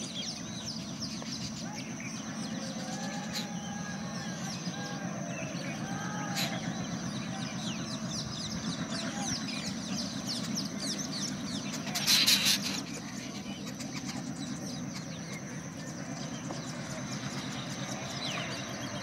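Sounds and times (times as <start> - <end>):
birds chirping: 0.0 - 19.0
diesel locomotive rumble: 0.0 - 19.0.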